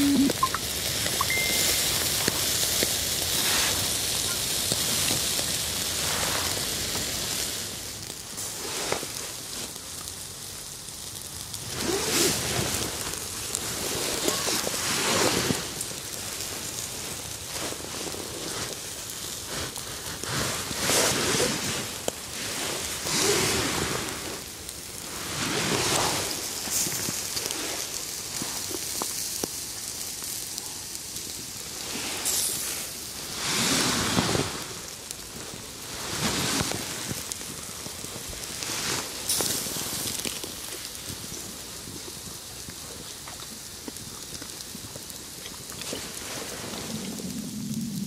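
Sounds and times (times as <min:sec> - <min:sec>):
fire crackling and hissing: 0:00.0 - 0:48.0.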